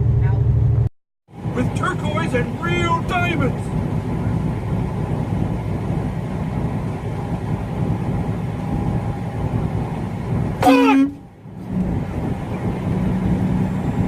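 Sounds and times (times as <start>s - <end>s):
truck engine and road drone: 0.0s - 14.0s.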